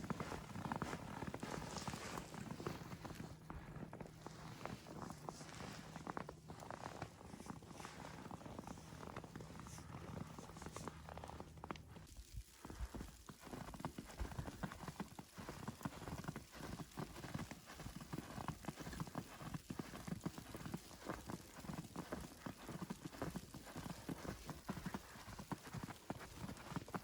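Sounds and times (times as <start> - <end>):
footsteps crunching in snow: 0.0 - 27.0.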